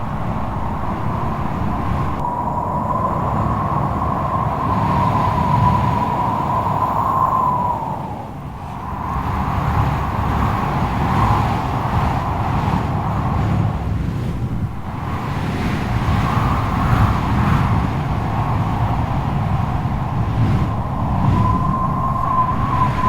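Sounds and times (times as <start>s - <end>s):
strong wind howling: 0.0s - 23.0s.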